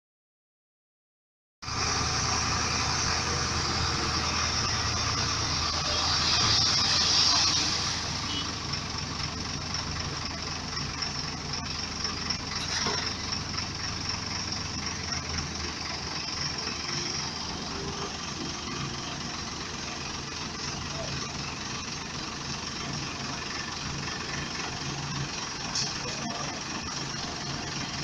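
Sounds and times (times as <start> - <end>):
diesel engines running: 1.6 - 28.0.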